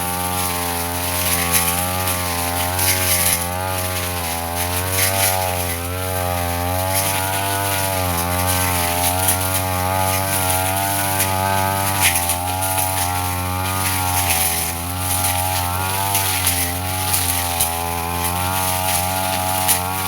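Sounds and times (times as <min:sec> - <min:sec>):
brush cutter engine at high revs: 0:00.0 - 0:20.0
vegetation crackling: 0:00.0 - 0:20.0.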